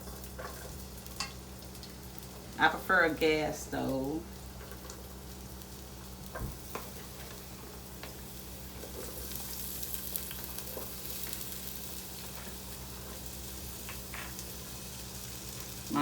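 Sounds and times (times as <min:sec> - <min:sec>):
vegetables sizzling in a skillet: 0:00.0 - 0:16.0.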